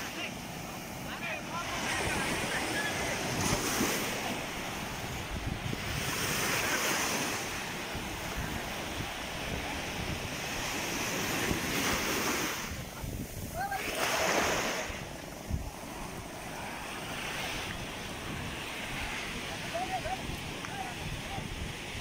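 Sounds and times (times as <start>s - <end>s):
sea waves washing on shore: 0.0s - 22.0s
wind buffeting microphone: 1.8s - 22.0s.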